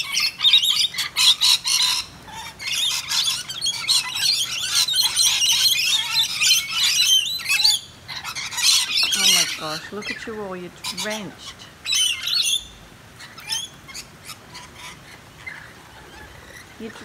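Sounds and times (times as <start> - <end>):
parrots chattering and screeching: 0.0 - 17.0.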